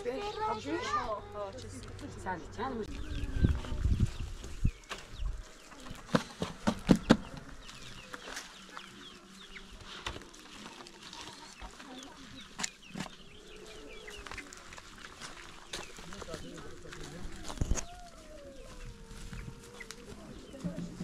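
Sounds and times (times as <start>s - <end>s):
chickens clucking: 2.2s - 21.0s.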